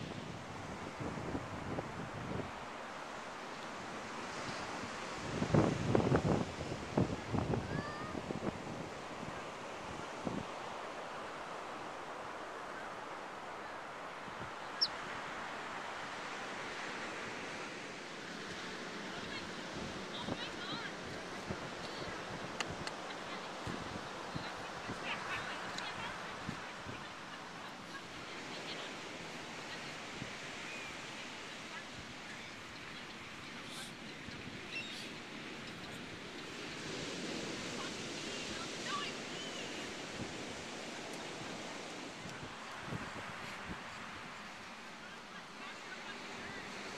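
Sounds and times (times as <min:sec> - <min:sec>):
ocean surf: 0:00.0 - 0:46.9.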